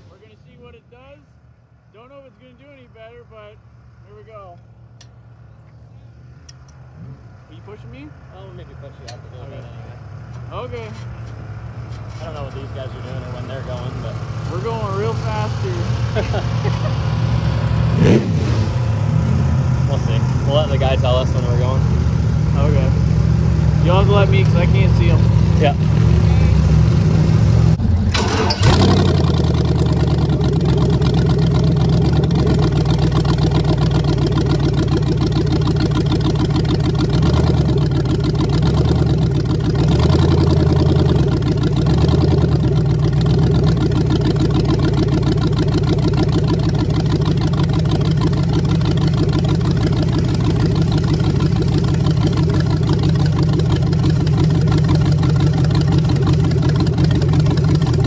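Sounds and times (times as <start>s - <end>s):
car engine idling loud: 1.9s - 58.0s.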